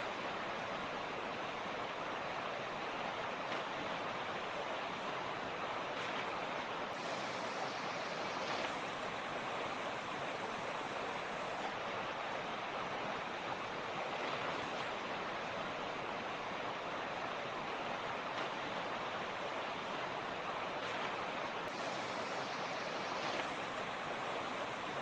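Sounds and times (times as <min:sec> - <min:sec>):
mountain creek rushing: 0:00.0 - 0:25.0.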